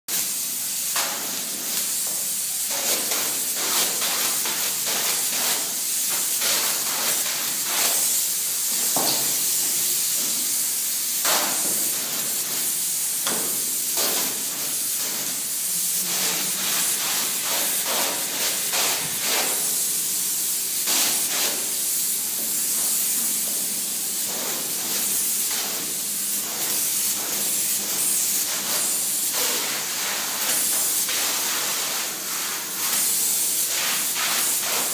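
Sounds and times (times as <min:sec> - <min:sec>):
foam spray gun hissing: 0:00.1 - 0:34.9.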